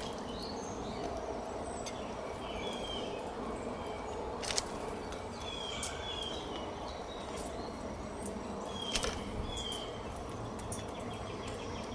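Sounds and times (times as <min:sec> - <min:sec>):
birds pecking at seed: 0:00.0 - 0:11.9
outdoor background hiss: 0:00.0 - 0:11.9.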